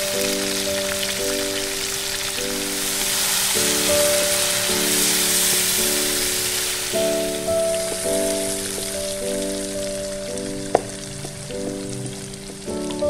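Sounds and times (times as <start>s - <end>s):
background music of held chords: 0.0s - 13.0s
chicken sizzling in hot oil: 0.0s - 13.0s.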